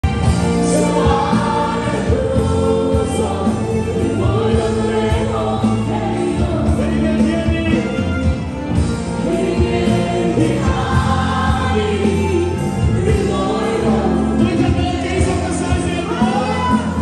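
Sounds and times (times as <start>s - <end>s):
amplified instrumental accompaniment: 0.0s - 17.0s
congregation singing: 0.1s - 17.0s.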